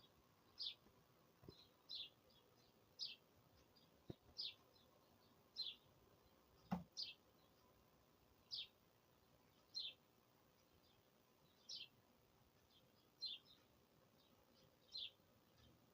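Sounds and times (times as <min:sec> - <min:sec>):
bird chirping: 0:00.0 - 0:15.9
faint background hiss: 0:00.0 - 0:15.9.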